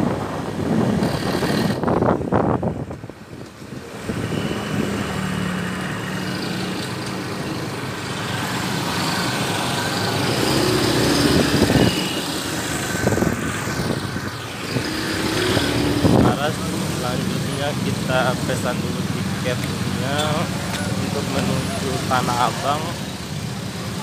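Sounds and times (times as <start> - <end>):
road and wind noise: 0.0 - 24.0
small motorcycle engines running: 3.8 - 24.0.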